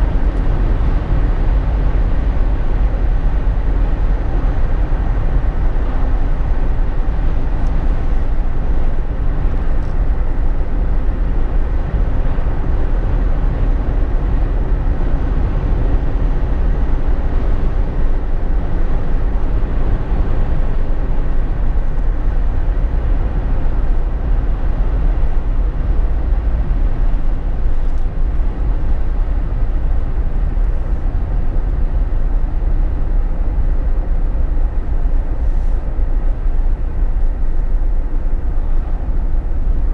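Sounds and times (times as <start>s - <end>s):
car interior engine and road rumble: 0.0s - 39.9s.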